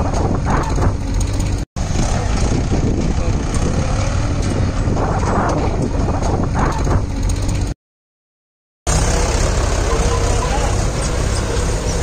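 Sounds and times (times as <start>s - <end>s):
tractor diesel engine under load: 0.0s - 7.8s, 8.9s - 12.0s.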